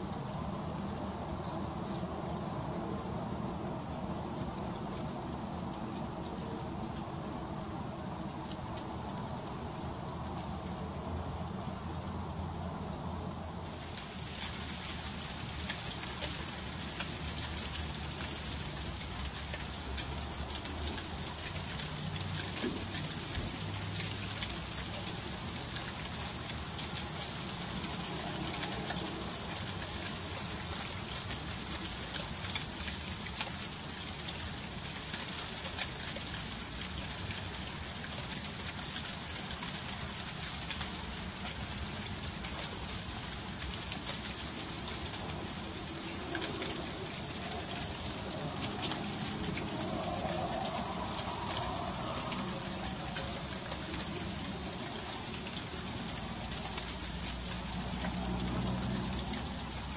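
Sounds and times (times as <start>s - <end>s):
freezing rain pattering on ice: 0.0s - 59.9s.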